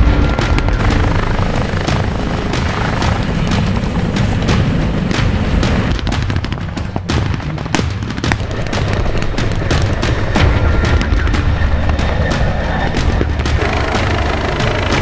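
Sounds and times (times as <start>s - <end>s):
helicopter rotor noise: 0.0s - 6.0s, 8.4s - 15.0s.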